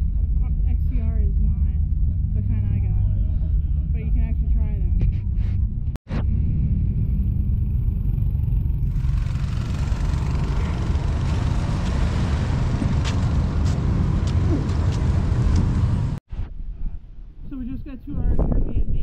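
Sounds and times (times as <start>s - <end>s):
low vehicle rumble: 0.0s - 17.0s
road or wind noise: 0.0s - 19.0s.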